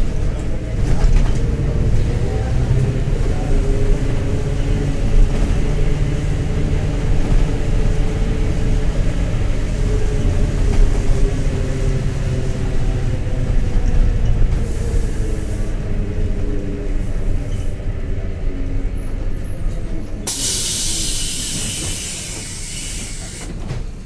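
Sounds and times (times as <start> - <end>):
diesel bus engine running: 0.0 - 24.0.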